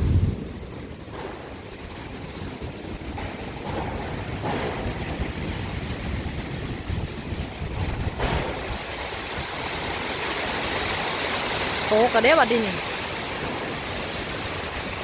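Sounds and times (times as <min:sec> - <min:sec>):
heavy rain hissing: 0:00.0 - 0:15.0
storm wind buffeting microphone: 0:00.0 - 0:15.0.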